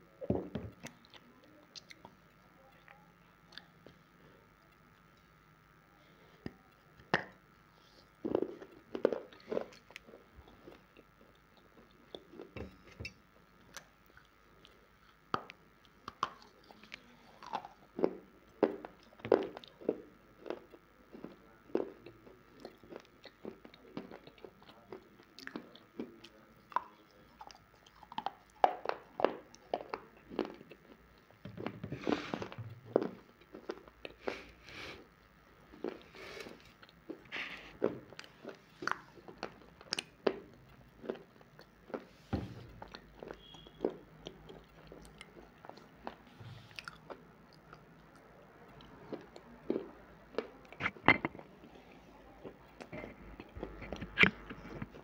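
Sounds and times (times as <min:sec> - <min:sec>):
chewing: 0:08.0 - 0:31.4, 0:32.0 - 0:55.0.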